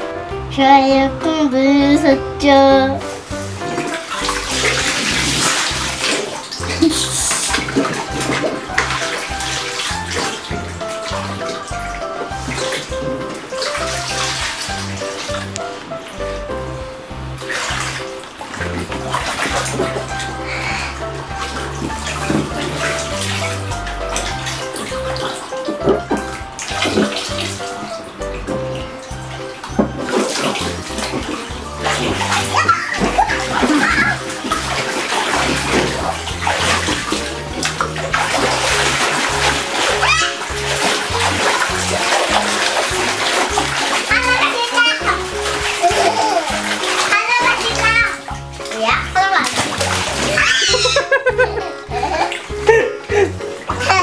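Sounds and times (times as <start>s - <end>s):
background music with bass line: 0.0s - 54.0s
water splashing and sloshing: 0.0s - 54.0s.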